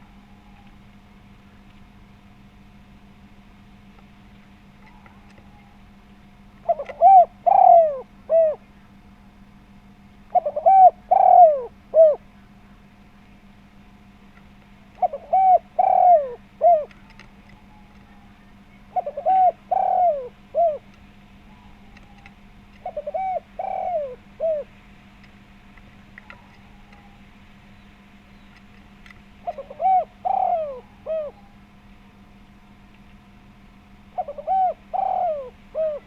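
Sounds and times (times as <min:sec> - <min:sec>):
dove cooing: 0:00.0 - 0:01.6, 0:04.6 - 0:09.1, 0:09.8 - 0:12.9, 0:14.8 - 0:32.8, 0:33.8 - 0:36.0
faint steady hum: 0:00.0 - 0:36.0.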